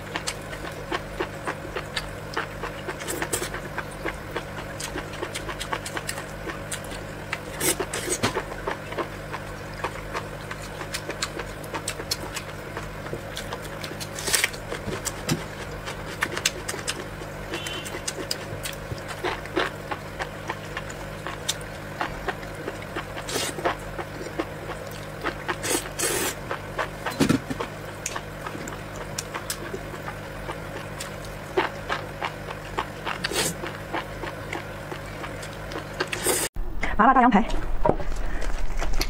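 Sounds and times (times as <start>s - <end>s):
slurping and wet chewing: 0.0s - 36.5s
steady low hum: 0.0s - 39.0s.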